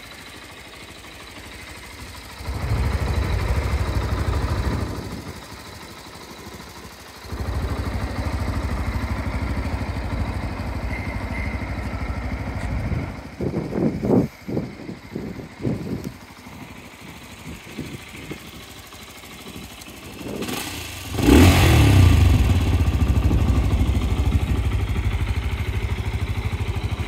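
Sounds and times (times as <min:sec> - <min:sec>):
motorcycle engine starting and idling: 0:00.0 - 0:27.0.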